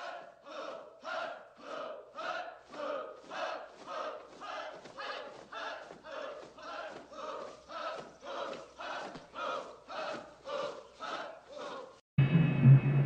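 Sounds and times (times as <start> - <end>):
group shouting in unison: 0.0 - 12.0.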